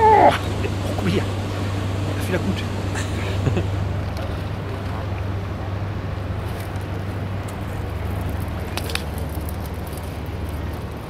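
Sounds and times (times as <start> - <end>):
boat traffic rumble: 0.0 - 11.0
wind: 0.0 - 11.0.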